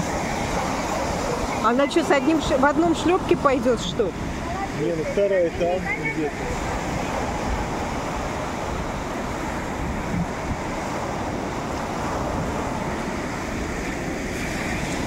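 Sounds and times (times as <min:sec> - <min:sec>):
waves washing on pebble beach: 0:00.0 - 0:15.0.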